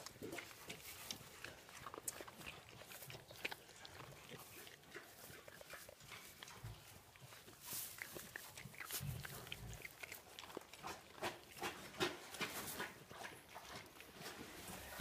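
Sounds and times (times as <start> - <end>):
straw rustling: 0.0 - 15.0.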